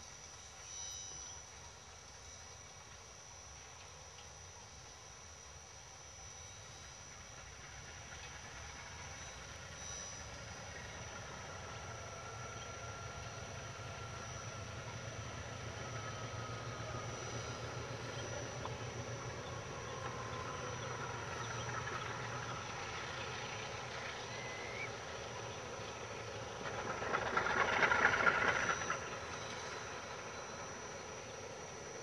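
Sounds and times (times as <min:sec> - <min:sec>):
diesel locomotive engine rumble: 0:00.0 - 0:32.0
train hiss: 0:05.8 - 0:32.0.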